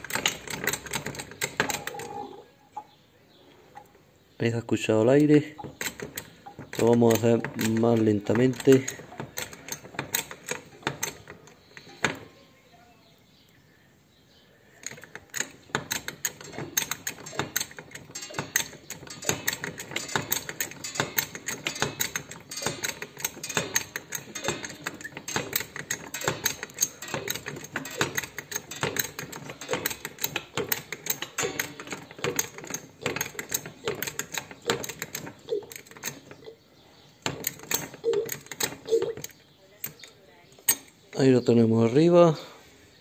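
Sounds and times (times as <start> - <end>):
hydraulic jack clicking and crackling: 0.0 - 4.1, 5.0 - 12.4, 14.7 - 41.3.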